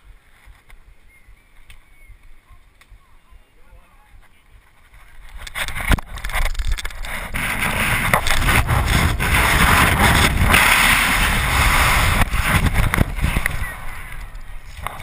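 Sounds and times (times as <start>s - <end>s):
wind rushing over camera: 0.0s - 15.0s.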